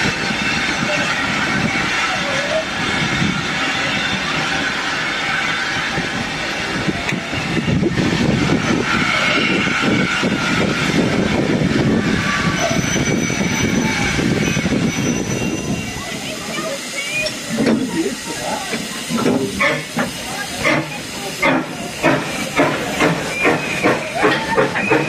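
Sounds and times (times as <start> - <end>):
train wheels rumbling and clattering: 0.0 - 25.0.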